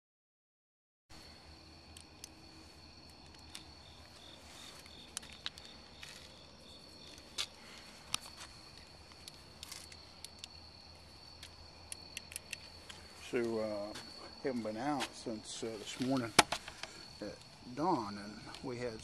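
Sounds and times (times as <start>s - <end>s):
crickets trilling: 1.1s - 19.0s
pulsing insect chirp: 1.1s - 19.0s.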